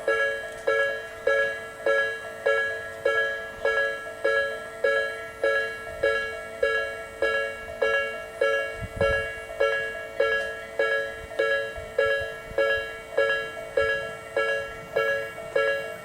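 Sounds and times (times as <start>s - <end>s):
level-crossing alarm bell: 0.0s - 16.0s.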